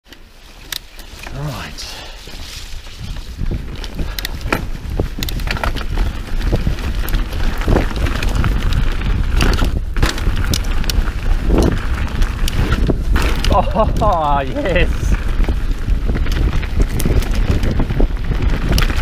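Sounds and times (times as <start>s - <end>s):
bike clicks and rattles: 0.0s - 19.0s
tyres rolling on dirt: 0.1s - 19.0s
wind on microphone: 1.1s - 19.0s.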